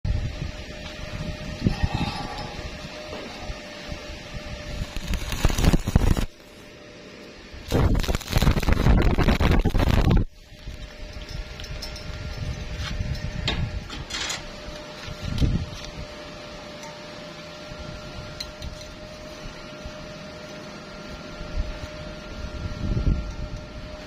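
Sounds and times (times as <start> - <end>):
machine hum with low rumble: 0.1 - 24.0.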